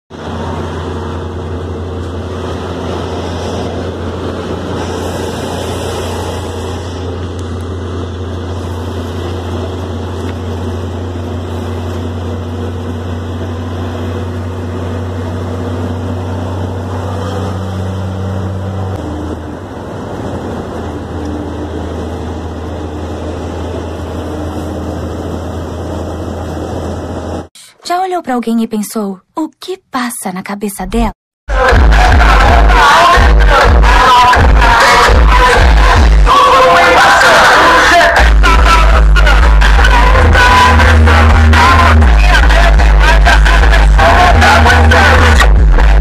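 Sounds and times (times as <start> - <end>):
road noise: 0.1 - 27.7, 31.5 - 46.0
truck diesel engine droning: 0.1 - 27.8, 31.5 - 46.0.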